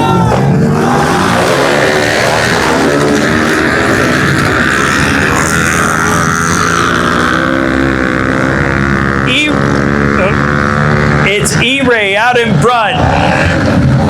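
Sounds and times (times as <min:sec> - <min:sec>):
pit bike engines racing: 0:00.0 - 0:14.0.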